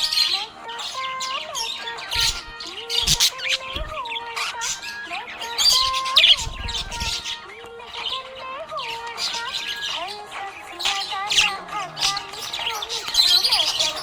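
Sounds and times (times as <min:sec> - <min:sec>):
budgerigars chirping and warbling: 0:00.0 - 0:14.0.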